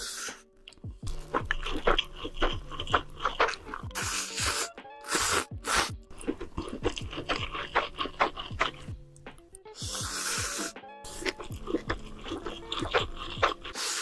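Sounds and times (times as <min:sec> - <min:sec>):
background music: 0:00.0 - 0:14.0
crunching and chewing crisp food: 0:00.0 - 0:14.0.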